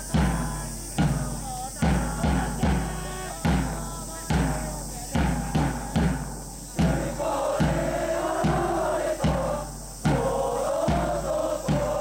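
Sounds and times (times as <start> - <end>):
crowd chanting in unison: 0.0 - 12.0
drum struck at steady beat: 0.0 - 12.0.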